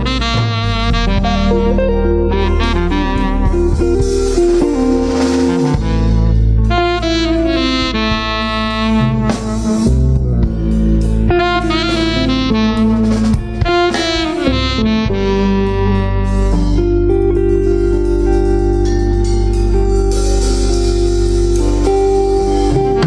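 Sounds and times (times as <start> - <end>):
alto saxophone: 0.0 - 23.0
bass: 0.0 - 23.0
drum kit: 0.0 - 23.0
electric guitar: 0.0 - 23.0.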